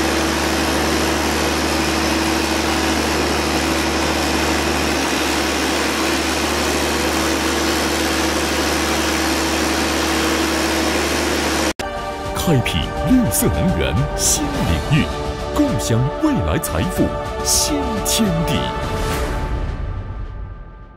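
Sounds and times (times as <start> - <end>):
generator engine droning: 0.0 - 19.1.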